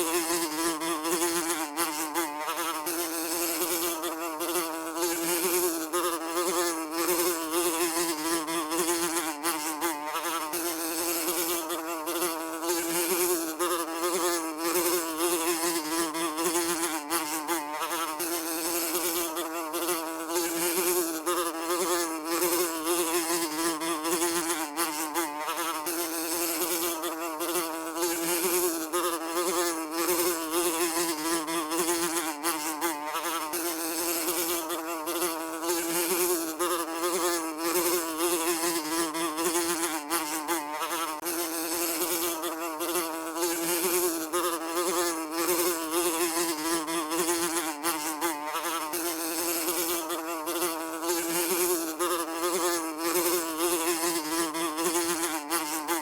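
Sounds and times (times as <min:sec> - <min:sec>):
fly buzzing: 0:00.0 - 0:56.0.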